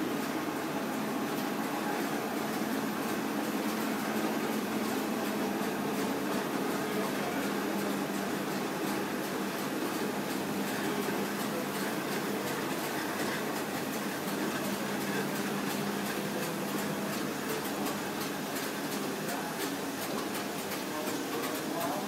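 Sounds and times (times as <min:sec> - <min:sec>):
printing press whirring: 0:00.0 - 0:22.0.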